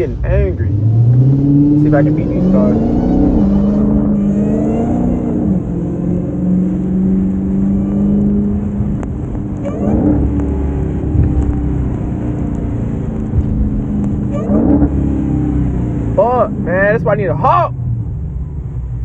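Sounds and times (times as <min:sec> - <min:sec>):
car engine accelerating: 0:00.0 - 0:16.7.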